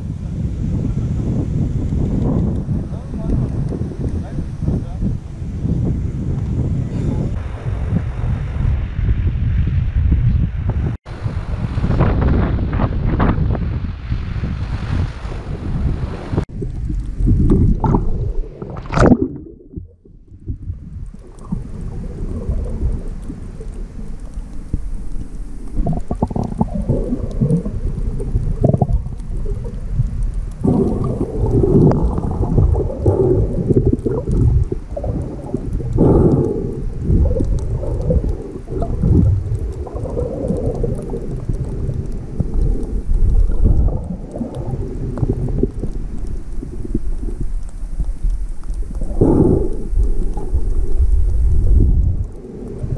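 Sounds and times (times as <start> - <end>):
underwater rumble and gurgling: 0.0 - 52.9.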